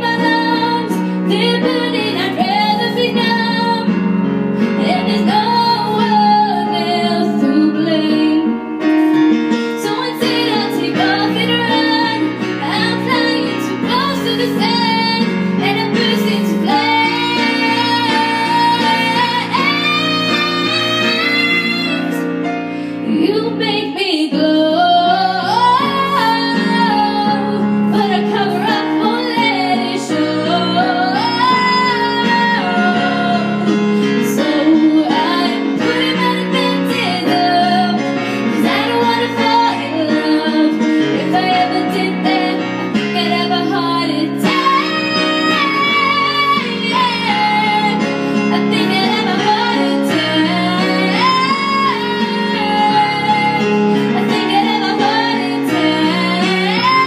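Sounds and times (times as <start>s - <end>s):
girl singing a pop song: 0.0s - 8.7s, 9.6s - 57.0s
live instrumental accompaniment: 0.0s - 57.0s.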